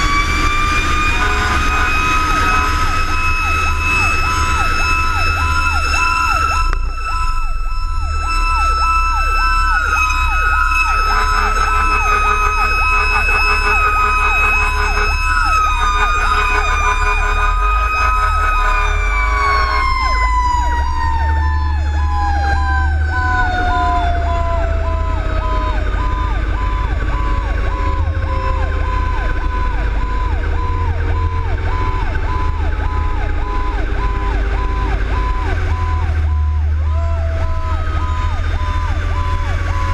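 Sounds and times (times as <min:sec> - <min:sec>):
siren steady high tone: 0:00.0 - 0:39.9
siren yelping: 0:00.0 - 0:39.9
truck low rumble: 0:00.0 - 0:39.9.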